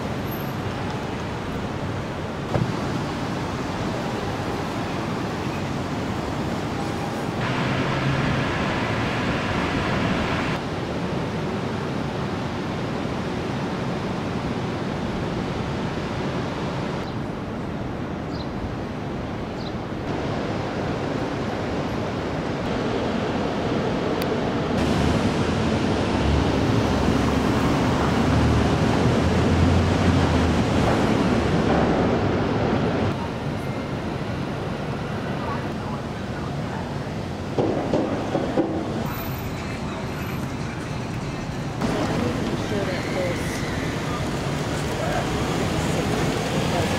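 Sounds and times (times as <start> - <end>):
traffic noise: 0.0 - 46.9.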